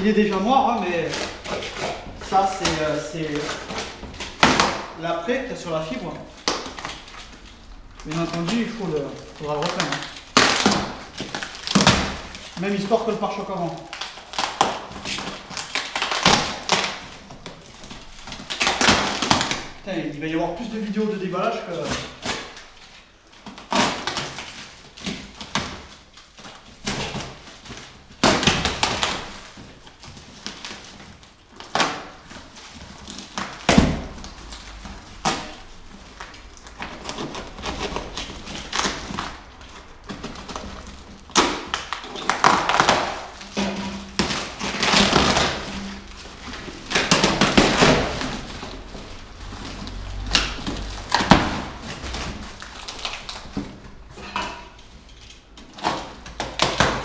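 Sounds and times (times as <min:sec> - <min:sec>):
packaging rustling and tearing: 0:00.0 - 0:57.0.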